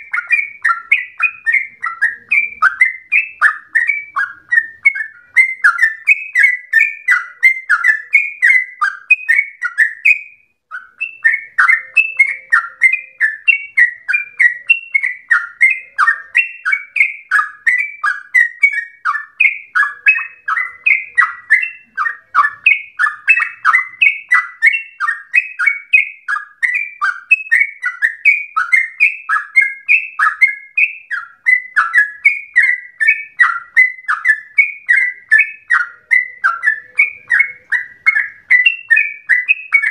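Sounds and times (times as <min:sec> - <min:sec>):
bird singing bubbling notes: 0:00.0 - 0:39.9.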